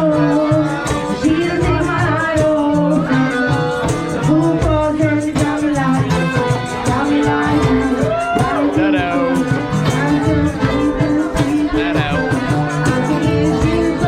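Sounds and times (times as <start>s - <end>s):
music with a steady beat: 0.0s - 14.0s
person singing: 0.0s - 14.0s
bass line: 1.2s - 14.0s.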